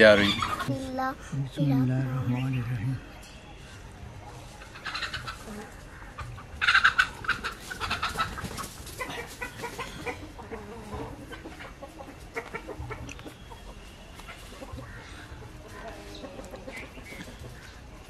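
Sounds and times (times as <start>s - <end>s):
chickens clucking: 0.0s - 1.1s, 1.7s - 18.0s.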